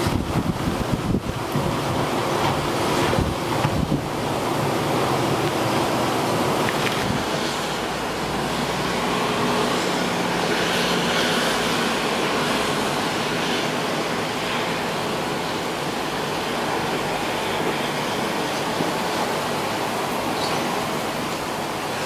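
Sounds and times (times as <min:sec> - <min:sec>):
rain: 0:00.0 - 0:22.0
storm wind through trees: 0:00.0 - 0:22.0.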